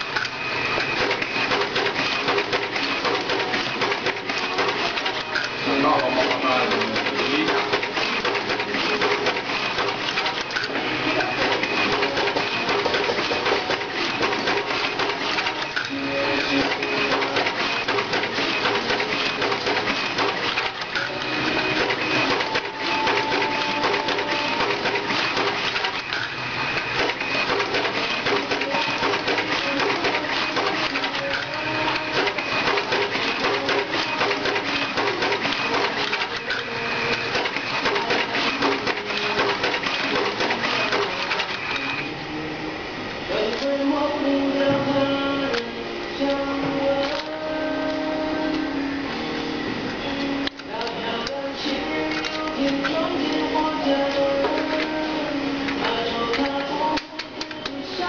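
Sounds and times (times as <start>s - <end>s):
card cutter machine clattering: 0.0s - 42.1s, 43.3s - 58.0s.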